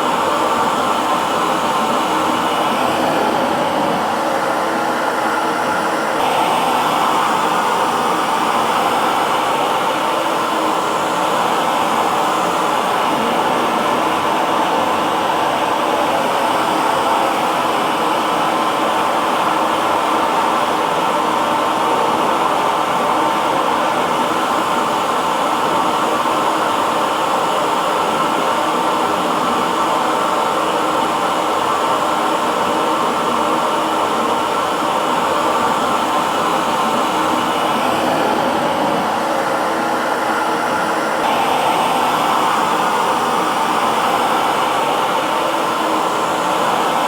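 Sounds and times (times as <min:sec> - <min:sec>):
hair dryer blowing: 0:00.0 - 0:47.0.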